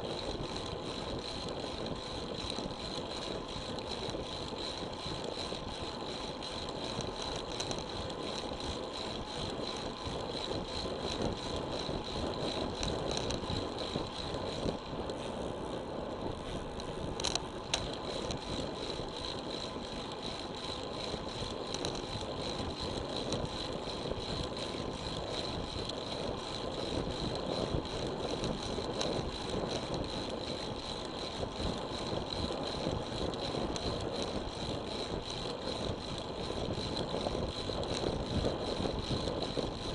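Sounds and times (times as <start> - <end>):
bike tyre and wind rush: 0.0 - 39.9.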